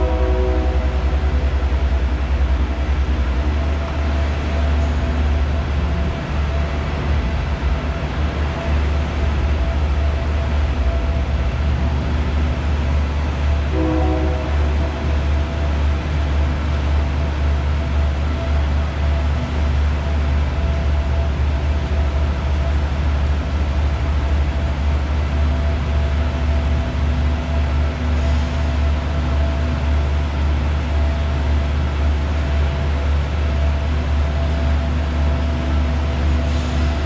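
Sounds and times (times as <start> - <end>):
idling diesel trains drone: 0.0 - 37.0.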